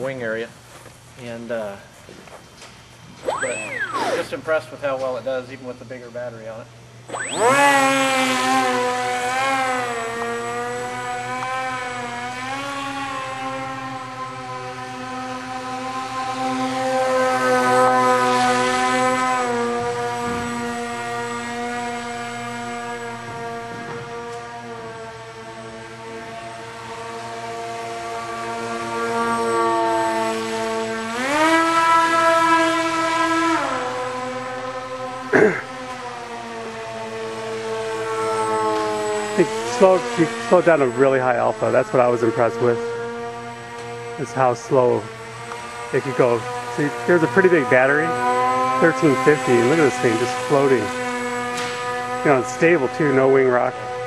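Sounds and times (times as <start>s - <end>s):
electric motor whining: 3.1s - 4.6s, 6.9s - 54.0s.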